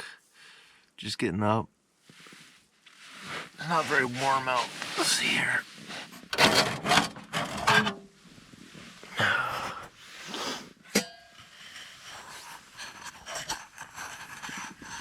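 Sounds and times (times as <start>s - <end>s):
rustling inside a tent: 1.8s - 15.0s.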